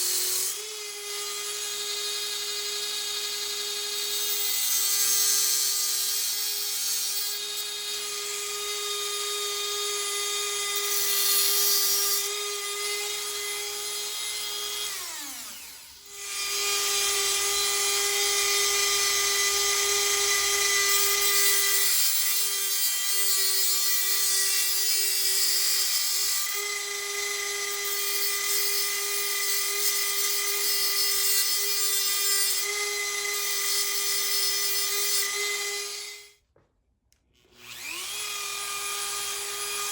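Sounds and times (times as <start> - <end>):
rotary tool grinding steel: 0.0 - 36.3, 37.4 - 39.9.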